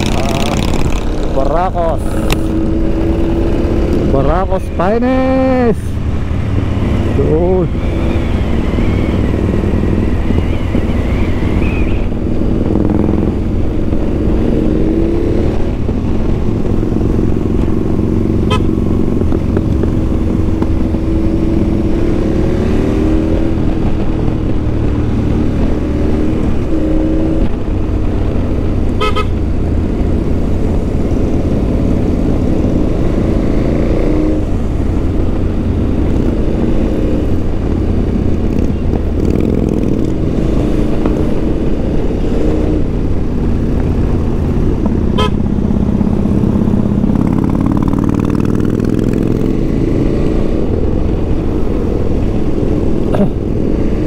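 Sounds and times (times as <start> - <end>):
motorcycle engine running: 0.0 - 22.5, 23.4 - 54.0
heavy wind: 0.0 - 54.0
road rumble: 0.0 - 54.0.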